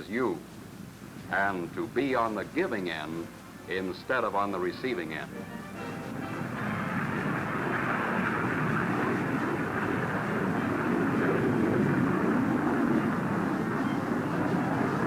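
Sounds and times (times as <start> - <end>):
jet aircraft noise: 1.8 - 15.0.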